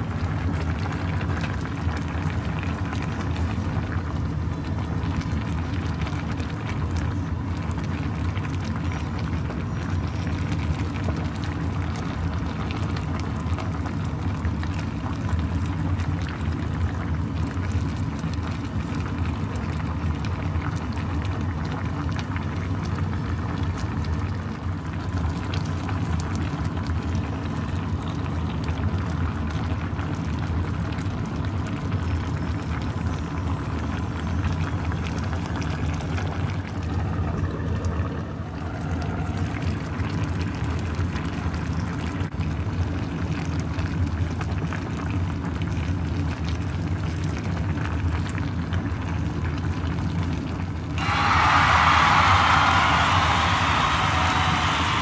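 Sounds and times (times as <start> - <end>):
soup bubbling in a pan: 0.0 - 55.0.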